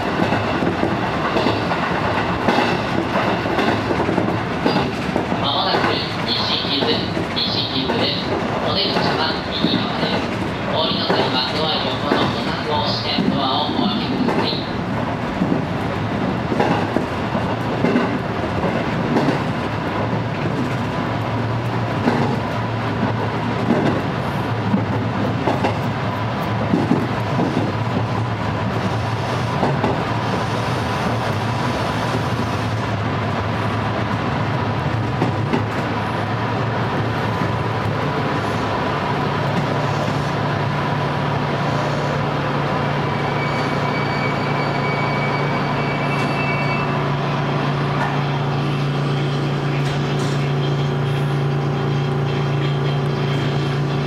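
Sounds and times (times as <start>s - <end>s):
train equipment hum: 0.0s - 43.8s, 45.1s - 54.0s
train wheels clickety-clack: 0.0s - 44.4s, 47.5s - 54.0s
train whine: 0.0s - 54.0s.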